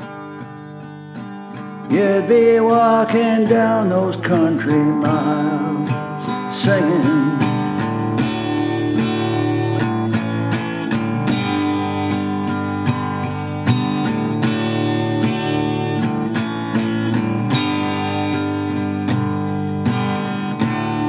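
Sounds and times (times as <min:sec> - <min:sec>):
strummed acoustic guitar chords: 0:00.0 - 0:21.0.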